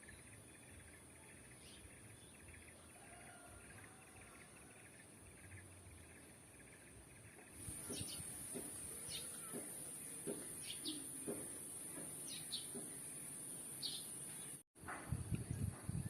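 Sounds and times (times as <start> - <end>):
wild birds chirping: 0.0 - 14.6.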